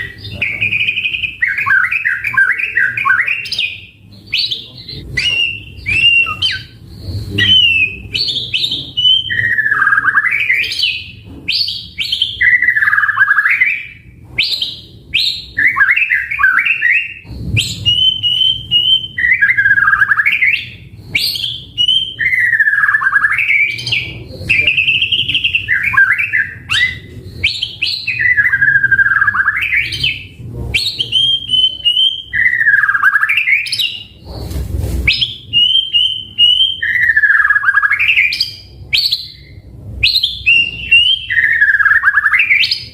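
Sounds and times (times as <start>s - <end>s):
bird singing whistled phrases: 0.0s - 34.2s, 35.1s - 42.9s.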